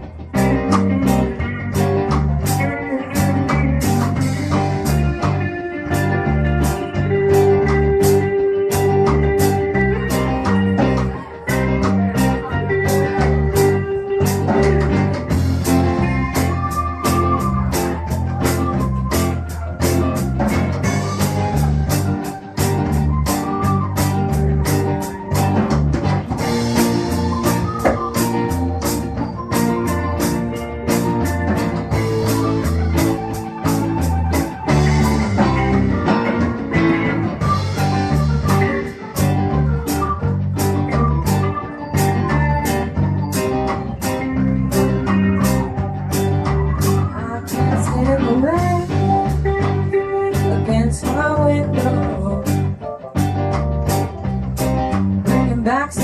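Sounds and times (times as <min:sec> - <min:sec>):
guitar: 0:00.0 - 0:56.0
live blues-soul band playing: 0:00.0 - 0:56.0.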